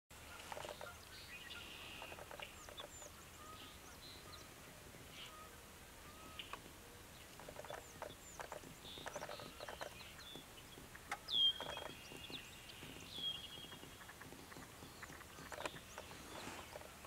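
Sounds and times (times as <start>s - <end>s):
faint birdsong: 0.2s - 17.0s.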